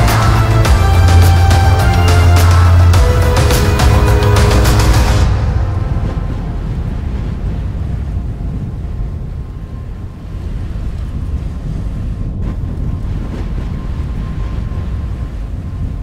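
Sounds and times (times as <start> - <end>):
low wind noise: 0.0 - 16.0.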